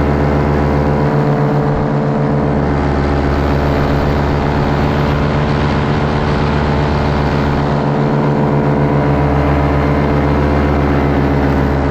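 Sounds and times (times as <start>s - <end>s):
paramotor engine running: 0.0s - 11.9s.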